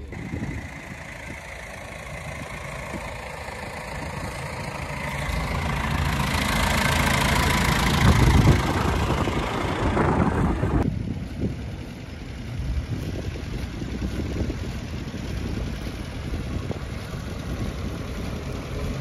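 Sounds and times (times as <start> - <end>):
tractor diesel engine passing: 0.0 - 19.0.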